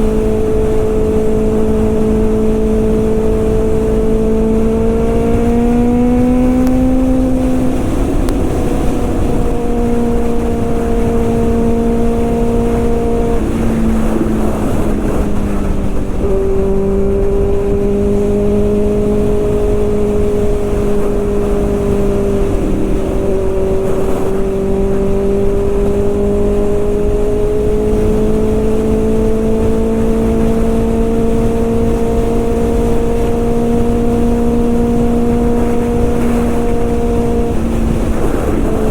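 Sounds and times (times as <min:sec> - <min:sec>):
motorcycle engine running: 0:00.0 - 0:38.9
steady rushing noise: 0:00.0 - 0:38.9.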